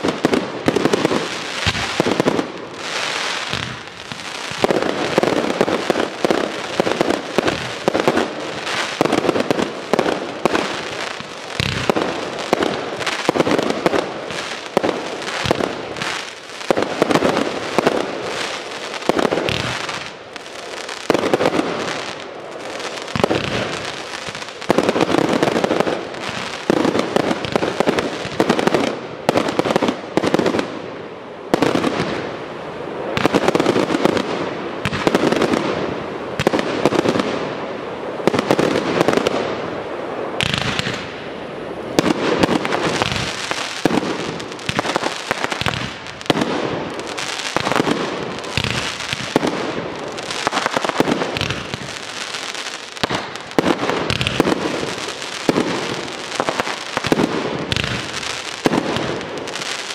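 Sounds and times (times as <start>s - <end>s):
fireworks bangs: 0.0s - 30.9s, 33.0s - 59.9s.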